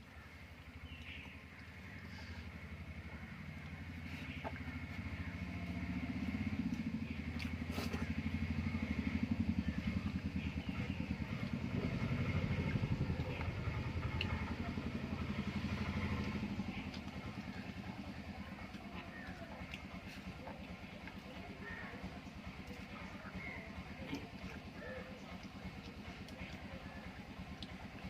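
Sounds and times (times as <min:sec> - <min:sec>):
vehicle engine throbbing: 0:00.1 - 0:28.0.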